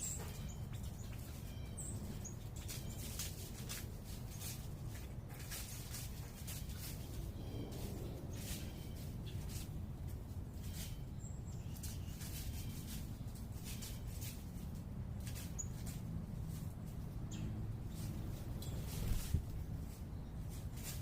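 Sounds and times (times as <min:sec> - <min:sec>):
distant city traffic hum: 0:00.0 - 0:21.0
small birds chipping: 0:00.0 - 0:21.0.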